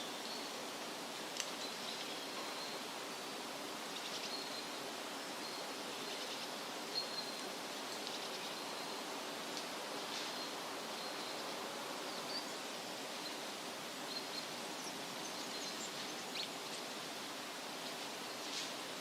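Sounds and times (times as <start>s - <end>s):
wind rustling through trees: 0.0s - 19.0s.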